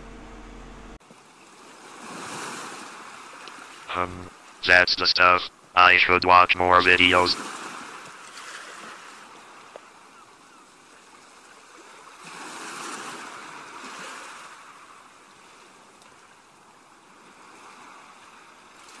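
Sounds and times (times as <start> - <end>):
ocean waves washing on shore: 1.1 - 19.0.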